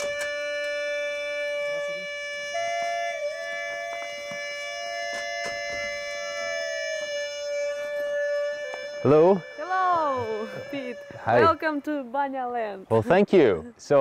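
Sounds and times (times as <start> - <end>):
gourd flute with drone: 0.0 - 13.1.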